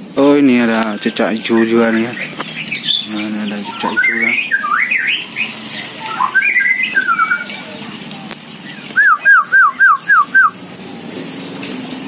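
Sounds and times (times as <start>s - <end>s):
songbirds singing and calling: 0.0s - 11.7s
repeated slurred whistled bird notes: 0.6s - 10.6s.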